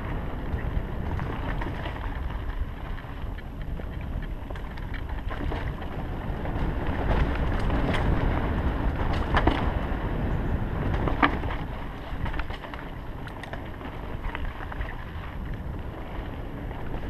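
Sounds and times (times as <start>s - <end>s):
bike rattling over bumps: 0.0s - 17.0s
bike tyres rumbling over dirt: 0.0s - 17.0s
wind buffeting microphone: 0.0s - 17.0s.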